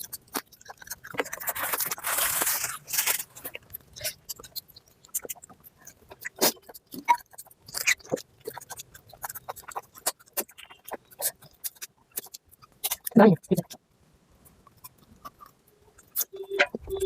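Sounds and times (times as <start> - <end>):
person chewing: 0.0 - 13.8, 14.6 - 17.0.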